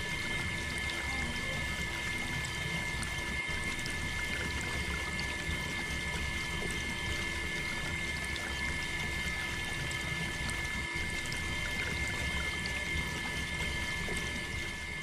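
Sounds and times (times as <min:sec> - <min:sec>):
pump motor whine: 0:00.0 - 0:15.0
water trickling and pouring: 0:00.0 - 0:15.0.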